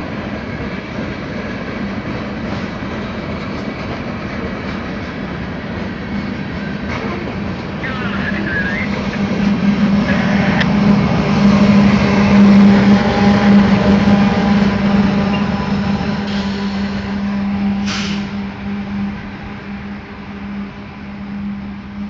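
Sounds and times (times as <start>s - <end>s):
diesel locomotive engine drone: 0.0s - 22.0s
train rumbling on rails: 0.0s - 22.0s.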